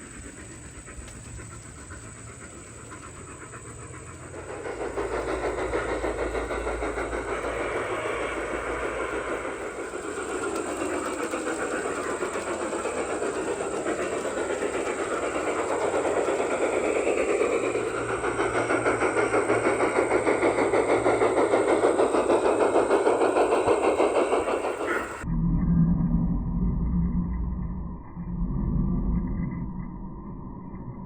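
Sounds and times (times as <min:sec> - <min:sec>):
model train clicking on track: 0:00.0 - 0:25.2
train motor whine: 0:00.0 - 0:25.2.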